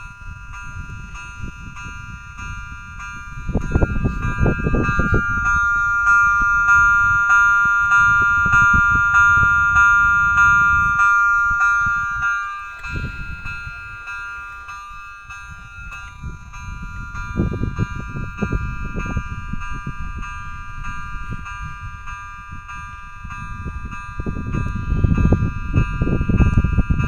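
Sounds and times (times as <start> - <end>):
level crossing bell ringing: 0.0 - 27.0.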